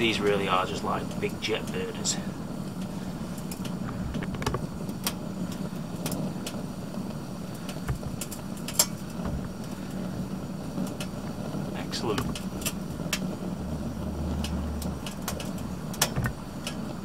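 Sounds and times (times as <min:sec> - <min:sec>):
gas burner humming: 0:00.0 - 0:17.0.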